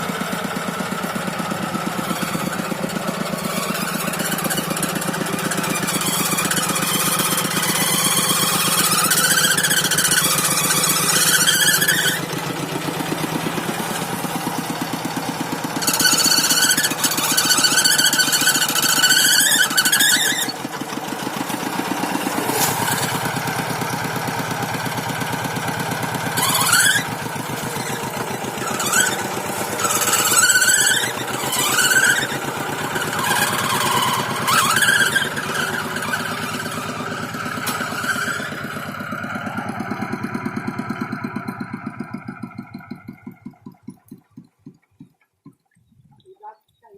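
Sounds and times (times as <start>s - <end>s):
high-pitched squeals: 0.0s - 44.2s
tractor engine chugging: 0.0s - 46.9s.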